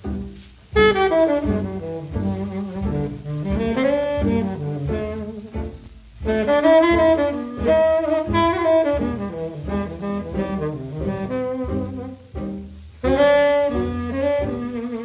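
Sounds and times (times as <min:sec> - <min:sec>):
double bass: 0:00.0 - 0:15.0
saxophone melody: 0:00.7 - 0:15.0.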